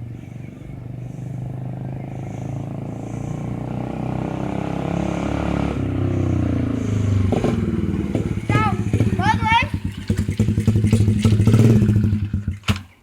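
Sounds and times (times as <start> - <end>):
dirt bike engine under throttle: 0.0 - 13.0.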